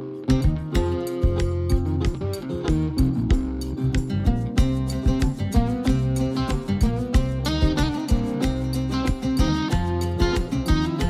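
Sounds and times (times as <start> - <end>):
guitar music over a steady beat: 0.0 - 11.0.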